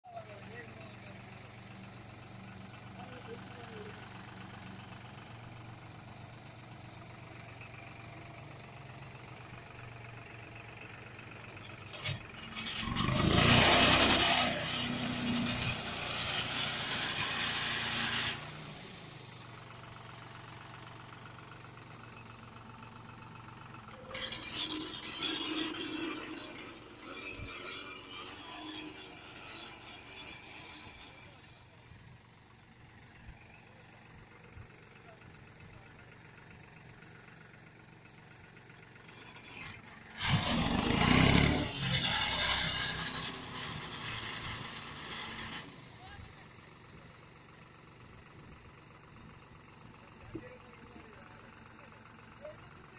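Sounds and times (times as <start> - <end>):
tractor diesel engine idling and revving: 0.0 - 52.9.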